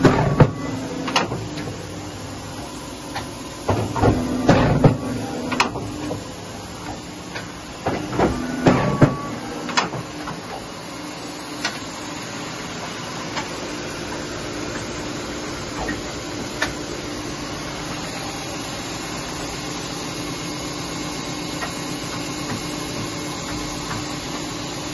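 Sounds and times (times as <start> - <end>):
paper cutter machine humming: 0.0 - 24.9.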